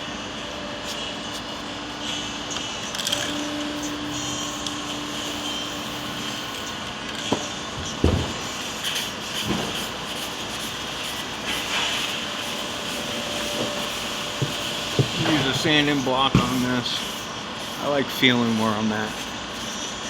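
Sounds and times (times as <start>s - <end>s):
mechanical hum and hiss: 0.0s - 20.0s.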